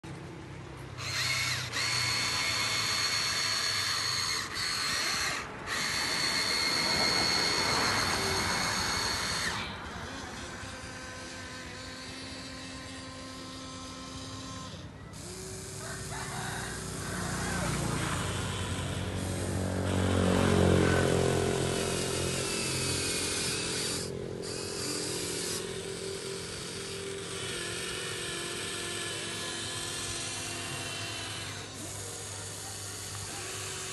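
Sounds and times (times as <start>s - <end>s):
electric motors whining: 0.0s - 33.9s.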